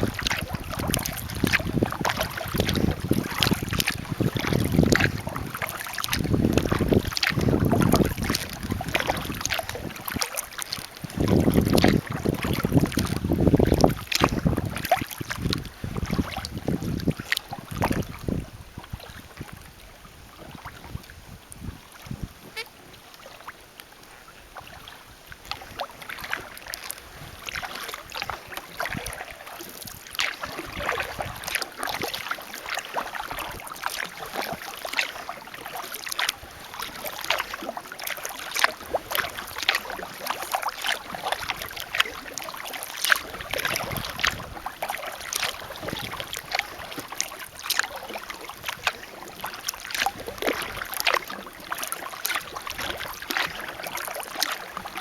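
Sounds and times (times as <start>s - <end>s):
paddle splashes and drips: 0.0s - 55.0s.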